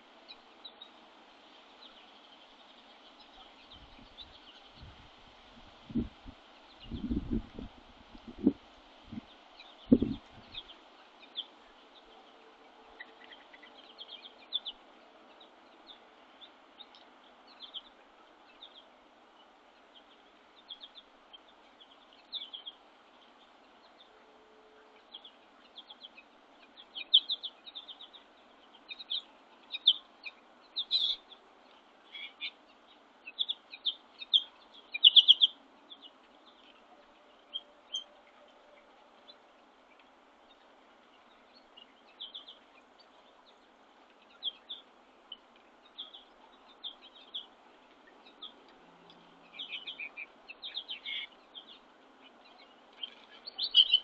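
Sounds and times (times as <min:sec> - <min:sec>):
faint steady background hum: 0:00.0 - 0:54.0
small birds chirping: 0:00.0 - 0:54.0.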